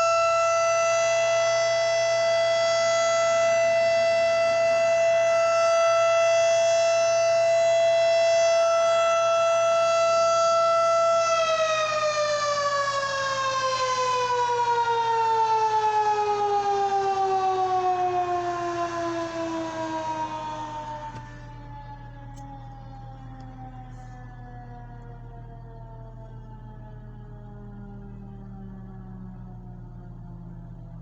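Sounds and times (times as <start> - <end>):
tornado warning siren: 0.0 - 31.0.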